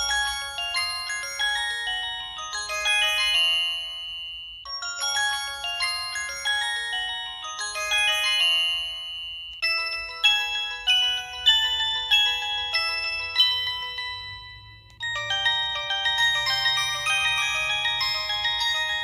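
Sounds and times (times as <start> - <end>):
phone ringtone melody: 0.0 - 19.0.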